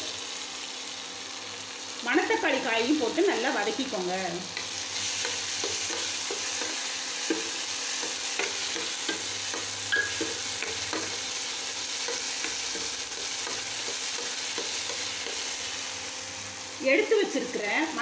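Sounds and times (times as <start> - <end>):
food sizzling in oil: 0.0 - 18.0.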